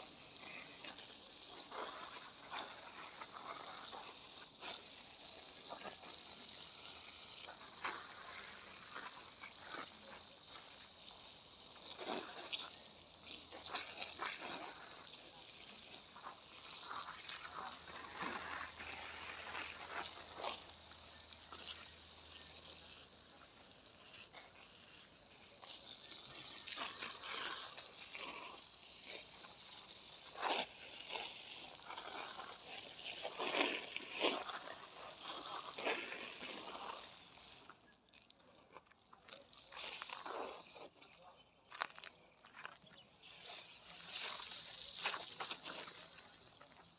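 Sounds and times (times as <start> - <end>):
garden hose spraying on plants: 0.0 - 41.6, 43.0 - 46.9.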